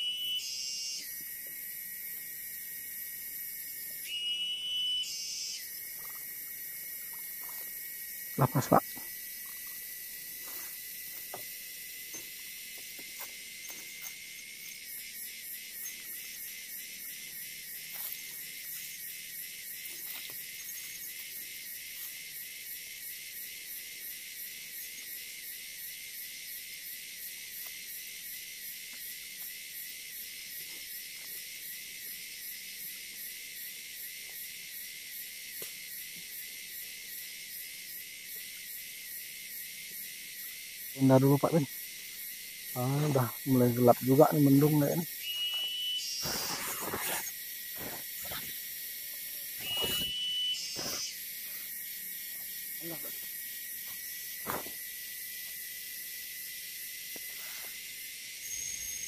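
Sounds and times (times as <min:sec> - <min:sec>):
high shrill insect hum: 0:00.0 - 0:59.0
pulsing insect call: 0:00.0 - 0:59.0.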